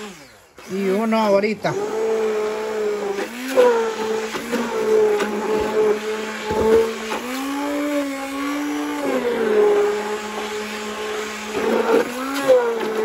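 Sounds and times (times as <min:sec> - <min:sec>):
immersion blender motor hum: 0:00.0 - 0:13.0.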